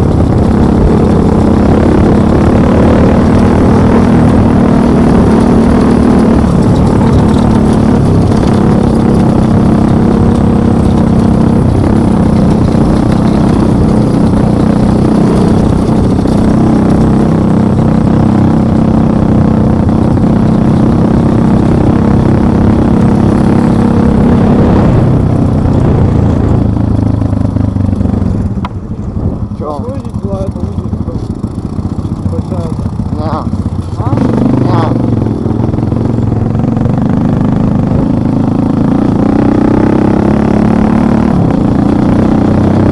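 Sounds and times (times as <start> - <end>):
vehicle engine running: 0.0 - 42.9.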